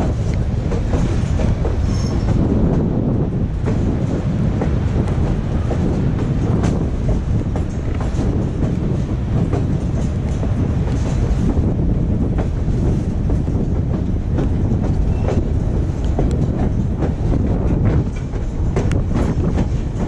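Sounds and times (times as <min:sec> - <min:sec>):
train rumbling: 0:00.0 - 0:20.0
wheels clacking over rail joints: 0:00.0 - 0:20.0.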